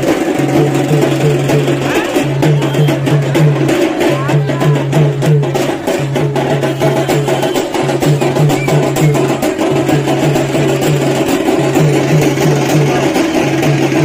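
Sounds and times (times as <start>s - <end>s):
loud music with fast percussion: 0.0s - 14.0s.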